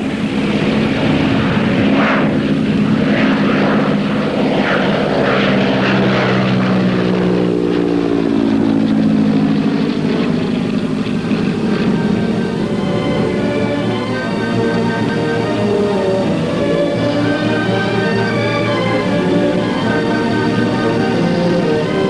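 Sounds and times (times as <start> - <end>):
propeller aircraft engine: 0.0 - 22.0.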